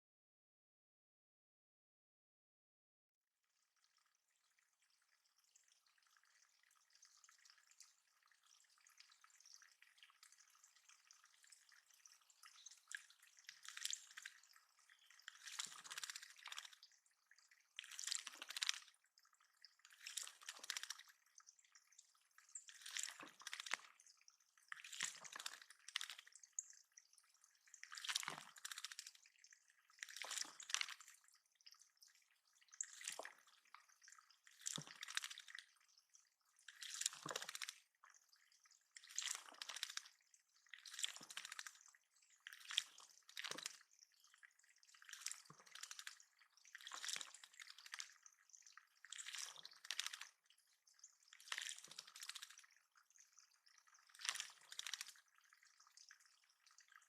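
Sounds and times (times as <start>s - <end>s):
water splashing in a pond: 3.6s - 57.0s.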